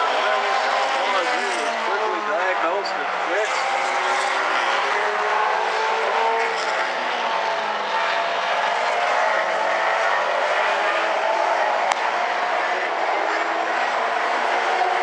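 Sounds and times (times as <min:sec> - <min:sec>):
racing car engines: 0:00.0 - 0:15.0.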